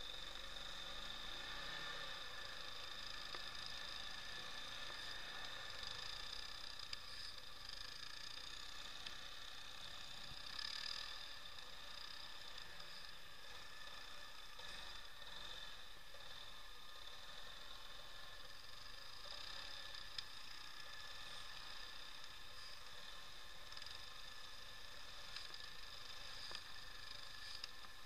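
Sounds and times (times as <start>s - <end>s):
atv engine running: 0.0s - 28.0s.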